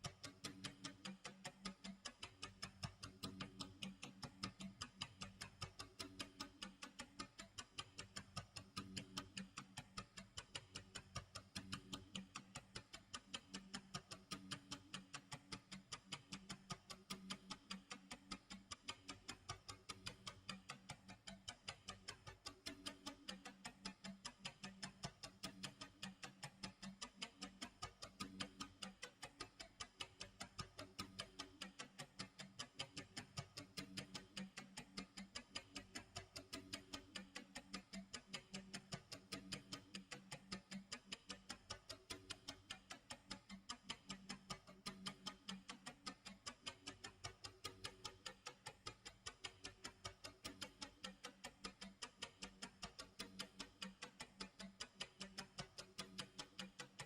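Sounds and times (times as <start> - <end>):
clock ticking: 0.0 - 57.0.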